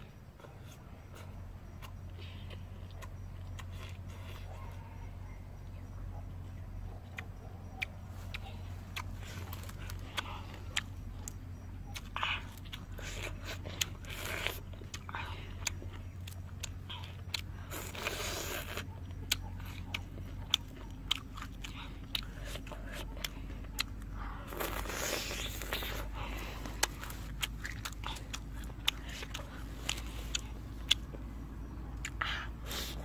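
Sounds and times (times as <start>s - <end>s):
chewing with crunches: 0.0s - 33.0s.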